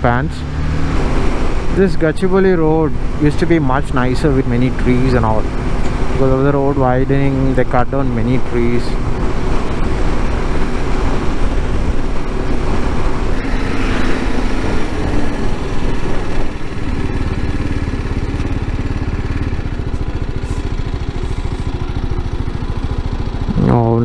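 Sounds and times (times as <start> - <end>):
motorcycle engine running: 0.9 - 24.0.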